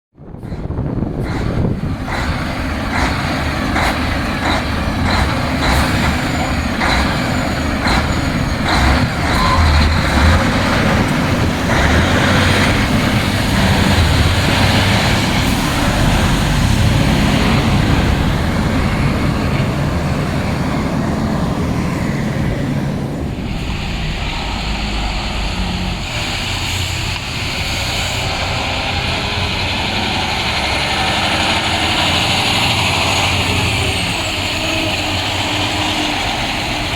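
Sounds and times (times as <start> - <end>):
diesel truck engine rumble: 0.2 - 36.9.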